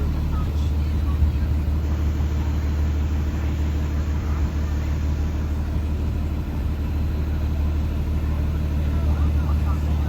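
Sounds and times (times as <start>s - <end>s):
bus engine low drone: 0.0s - 10.0s.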